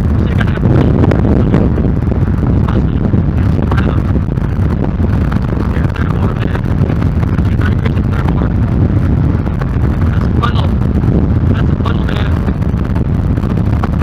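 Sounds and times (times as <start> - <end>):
car driving at highway speed: 0.0 - 14.0
wind buffeting microphone: 0.0 - 14.0.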